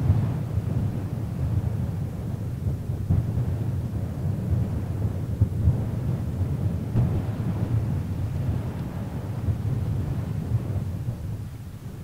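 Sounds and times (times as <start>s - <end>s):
deep rumbling wind gusts: 0.0s - 12.0s.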